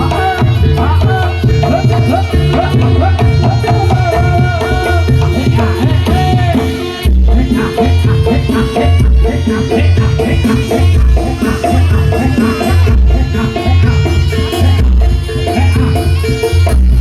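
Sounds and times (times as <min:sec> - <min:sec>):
bending melodic line: 0:00.0 - 0:17.0
hand drums: 0:00.0 - 0:17.0
heavy bass: 0:00.0 - 0:17.0.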